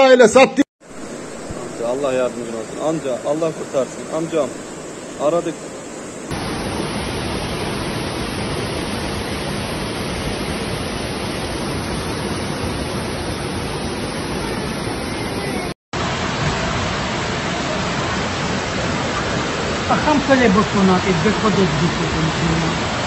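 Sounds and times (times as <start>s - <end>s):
floodwater rushing: 0.8s - 23.0s.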